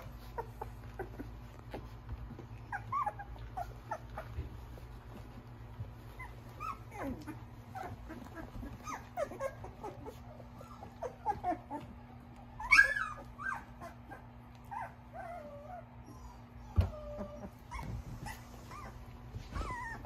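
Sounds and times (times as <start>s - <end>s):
puppy yelp: 0.0s - 5.2s, 6.0s - 20.0s
puppies whimpering and squeaking: 0.0s - 20.0s.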